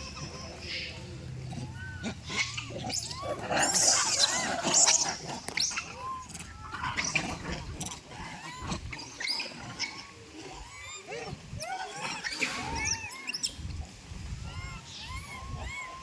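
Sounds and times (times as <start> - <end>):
monkey squeaking and chirping: 0.0 - 7.2, 7.8 - 16.0.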